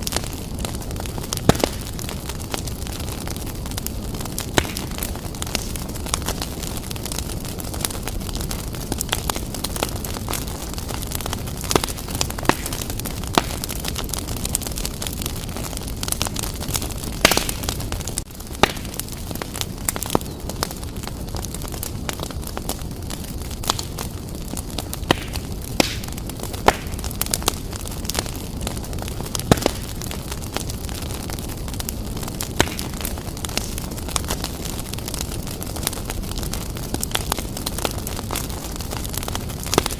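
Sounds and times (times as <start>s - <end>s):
fire crackles and pops: 0.0s - 39.9s
fireplace flames rushing: 0.0s - 39.9s.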